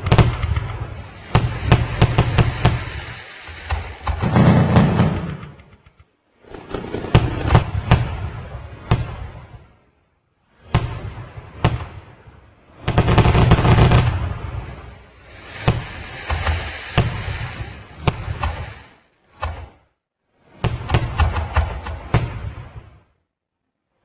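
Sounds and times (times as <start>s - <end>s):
sharp bangs and cracks: 0.0s - 9.8s, 10.6s - 19.9s, 20.5s - 23.2s
low rumbling: 0.0s - 20.5s.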